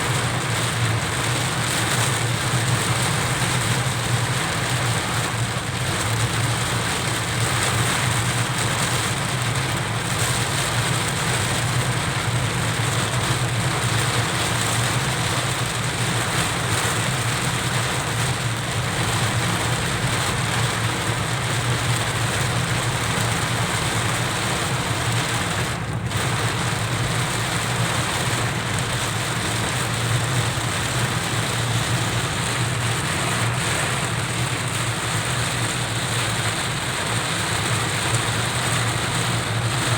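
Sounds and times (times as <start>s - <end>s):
car engine hum: 0.0s - 39.9s
heavy rain on car roof: 0.0s - 39.9s.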